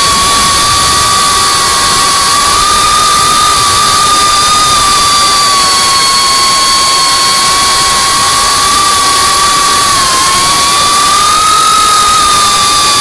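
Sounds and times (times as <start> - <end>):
drone motors whining: 0.0 - 13.0
rushing air hiss: 0.0 - 13.0.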